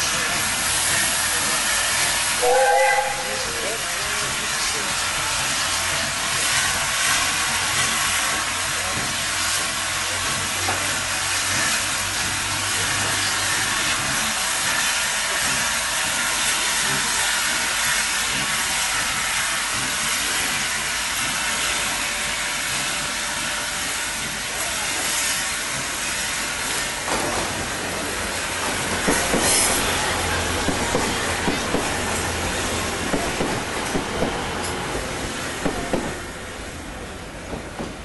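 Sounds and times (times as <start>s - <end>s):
loud hiss of steam: 0.0s - 38.0s.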